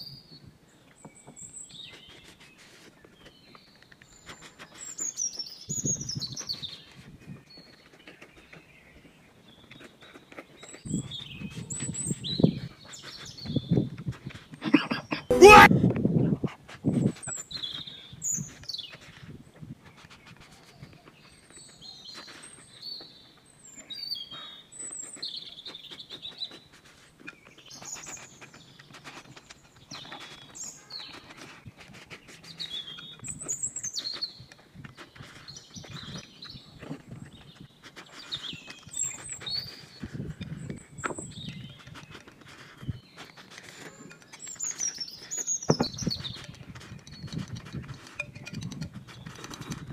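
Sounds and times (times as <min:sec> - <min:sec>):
small birds chirping: 0:00.0 - 0:15.4, 0:17.2 - 0:49.9.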